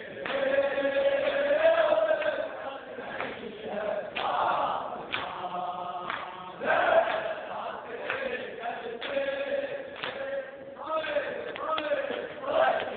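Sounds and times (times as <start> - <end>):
men chanting a lament: 0.0 - 12.9.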